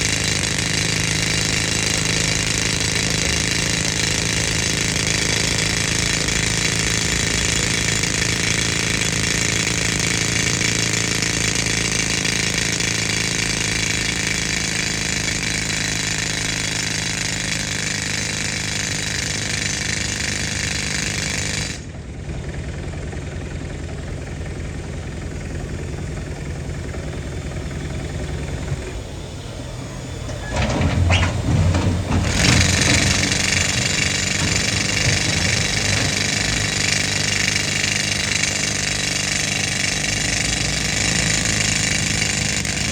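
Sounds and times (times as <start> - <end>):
air compressor engine running: 0.0 - 42.9
pneumatic rock drill hammering: 0.0 - 42.9.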